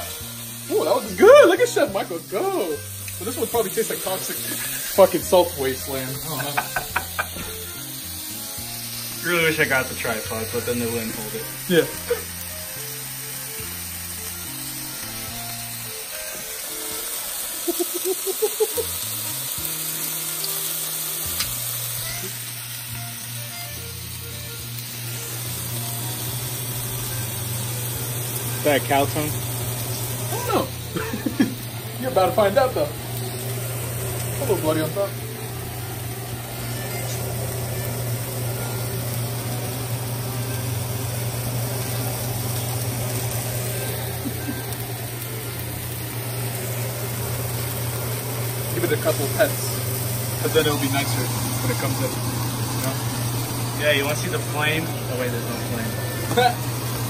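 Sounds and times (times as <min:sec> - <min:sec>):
burger patties sizzling in a pan: 0:00.0 - 0:57.0.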